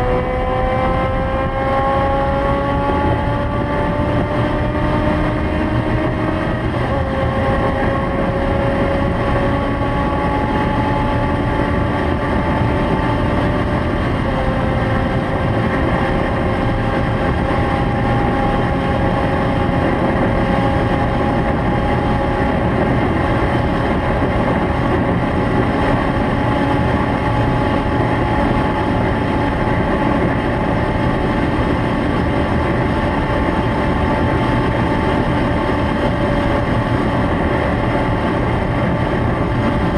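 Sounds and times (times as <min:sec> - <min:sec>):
rush of noise: 0:00.0 - 0:39.9.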